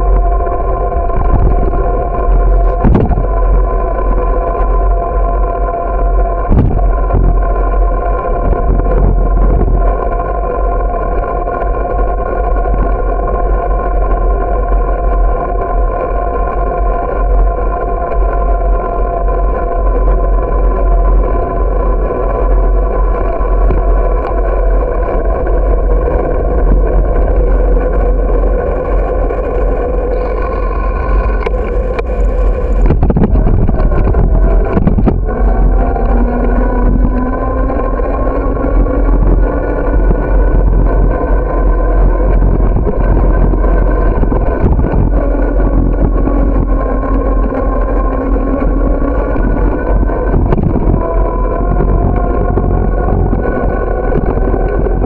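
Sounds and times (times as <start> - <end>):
steady droning hum: 0.0 - 55.0
wind rumble on microphone: 0.0 - 55.0.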